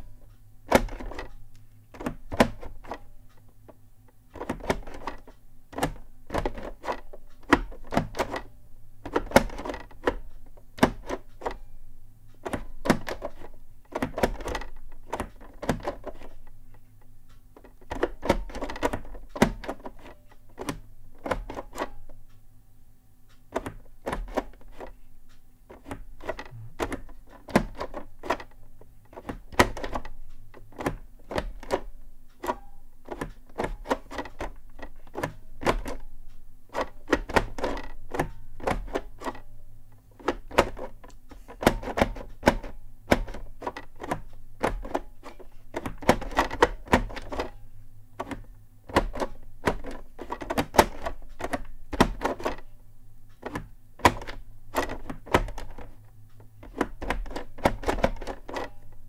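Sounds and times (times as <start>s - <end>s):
keyboard clacks and knocks: 0.7s - 1.4s, 4.4s - 11.6s, 12.4s - 16.5s, 17.6s - 22.0s, 23.5s - 25.0s, 25.7s - 36.1s, 36.7s - 39.5s, 40.2s - 47.6s, 48.2s - 52.7s, 53.4s - 59.0s.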